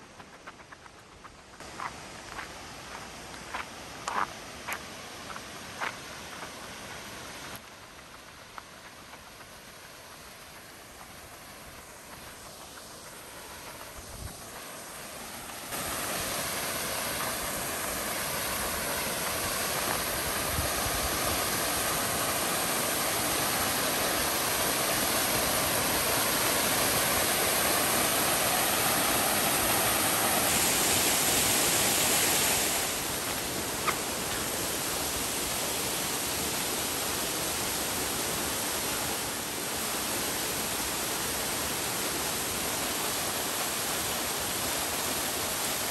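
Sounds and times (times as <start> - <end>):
rushing water: 1.6 - 45.9.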